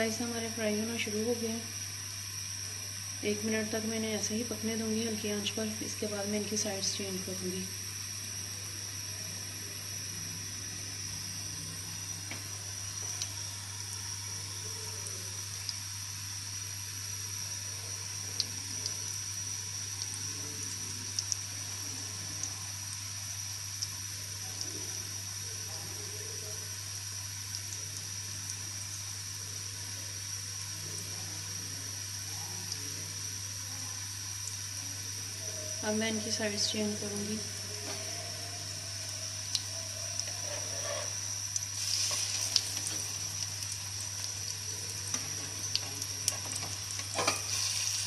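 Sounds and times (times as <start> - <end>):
bread frying in oil: 0.0 - 48.0.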